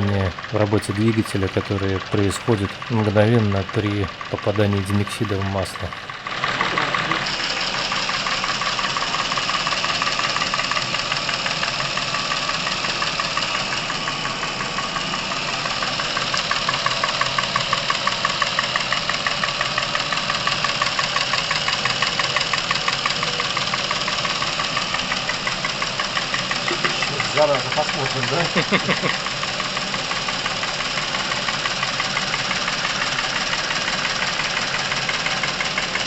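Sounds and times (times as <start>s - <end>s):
car engine idling: 0.0s - 36.0s
rapid ticking engine knock: 0.0s - 36.0s.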